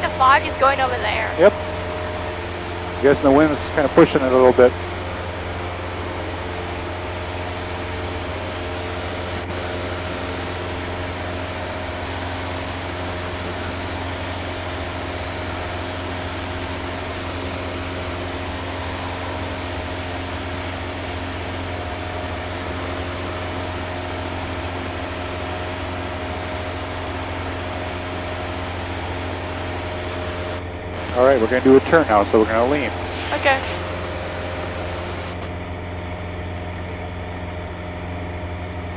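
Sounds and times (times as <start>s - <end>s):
airplane engine drone in cabin: 0.0s - 38.9s.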